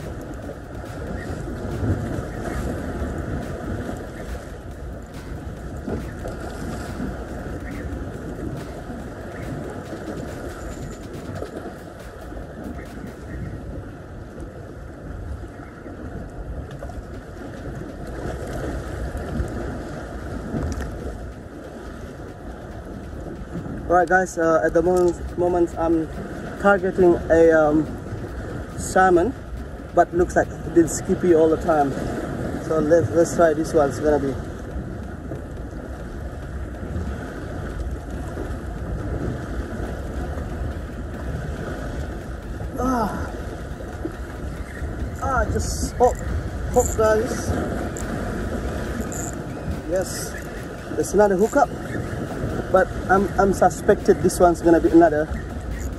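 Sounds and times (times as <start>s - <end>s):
wind blowing across microphone: 0.0s - 55.9s.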